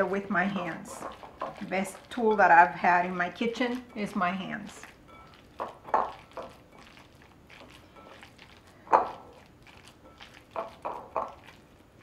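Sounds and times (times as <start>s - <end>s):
hands squelching ground meat: 0.0s - 12.0s.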